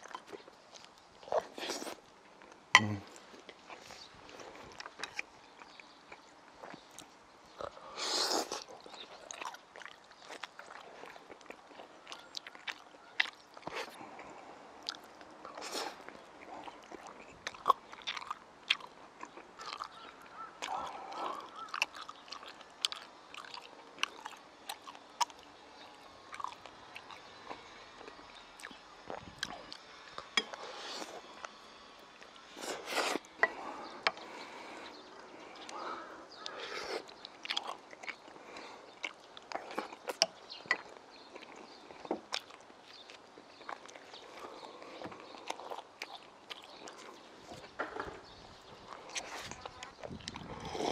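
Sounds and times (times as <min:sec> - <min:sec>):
man chewing food: 0:00.0 - 0:50.9.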